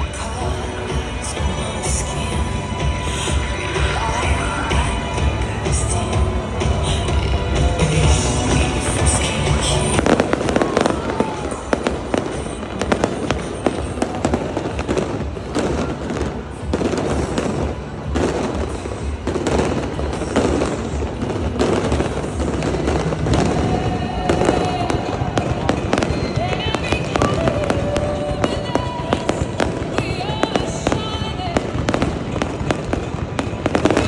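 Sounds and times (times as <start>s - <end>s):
firework bangs and crackling: 0.0s - 34.0s
music playing: 0.0s - 34.0s.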